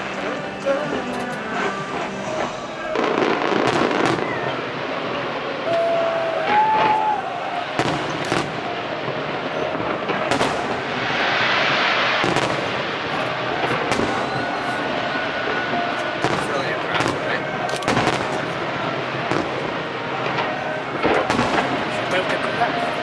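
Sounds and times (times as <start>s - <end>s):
firework whistling: 0.0s - 23.0s
fireworks bursting with bangs: 0.0s - 23.0s
hissing crackling shower: 0.0s - 23.0s.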